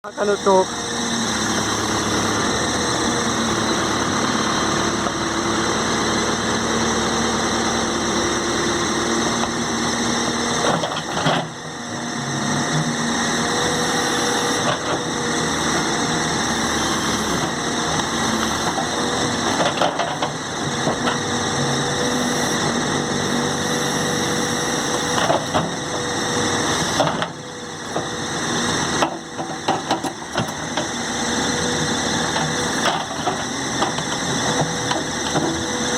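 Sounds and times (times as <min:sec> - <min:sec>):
truck engine droning: 0:00.0 - 0:35.9.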